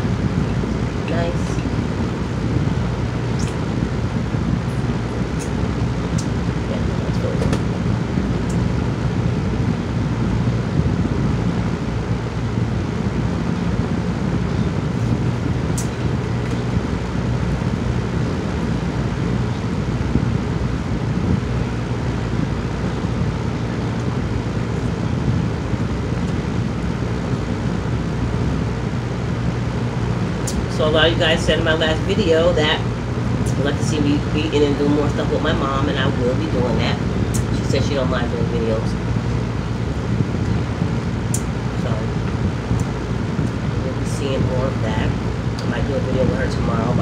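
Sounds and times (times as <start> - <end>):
room hum and hiss: 0.0 - 47.0.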